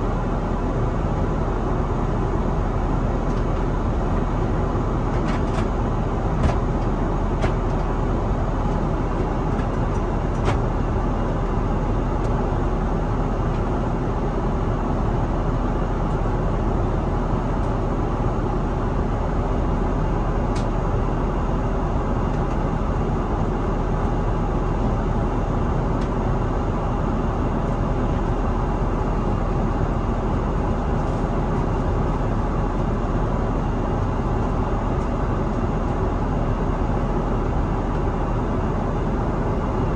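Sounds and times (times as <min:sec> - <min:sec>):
airliner cabin roar in flight: 0:00.0 - 0:39.9.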